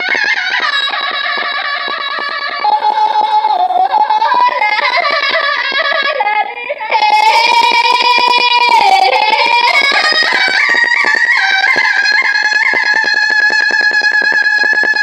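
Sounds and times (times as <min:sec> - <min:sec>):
high wavering melody: 0:00.0 - 0:15.0
quick steady pulse: 0:00.0 - 0:15.0.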